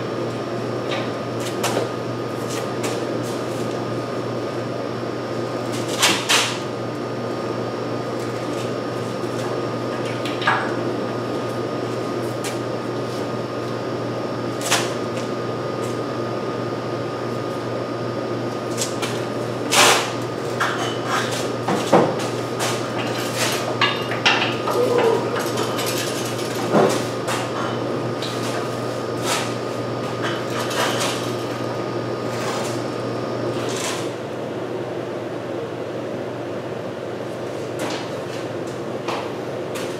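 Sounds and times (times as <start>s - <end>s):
steady background hum: 0.0s - 39.9s.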